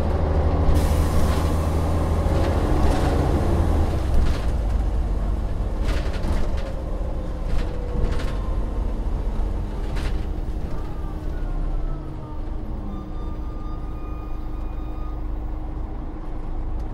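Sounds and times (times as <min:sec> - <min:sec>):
bus diesel engine rumbling: 0:00.0 - 0:16.9.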